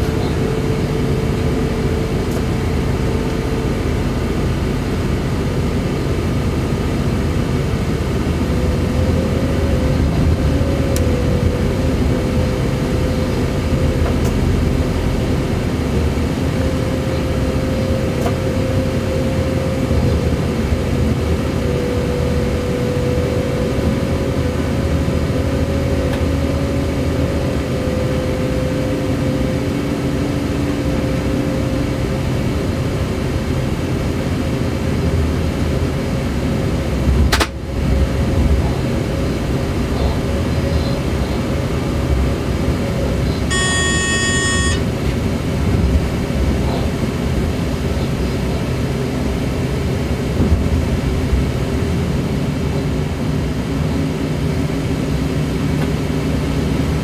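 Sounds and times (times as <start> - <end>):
electric train rumble and whine: 0.0 - 57.0.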